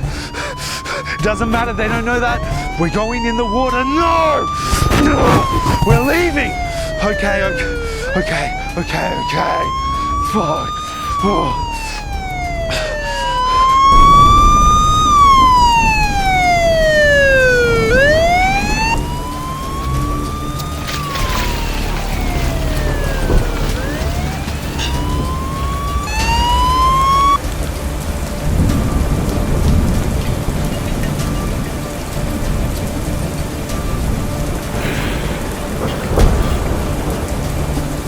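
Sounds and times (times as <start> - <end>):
heavy rain: 0.0 - 38.0
police siren wailing: 0.0 - 38.0.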